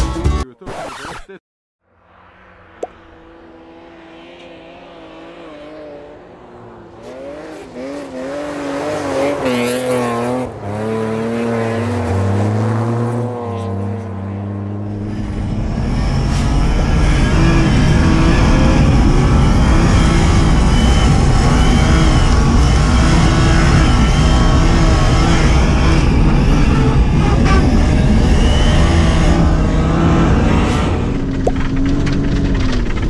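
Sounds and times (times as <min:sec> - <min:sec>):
car engine revving hard: 0:03.0 - 0:14.0, 0:14.7 - 0:32.4.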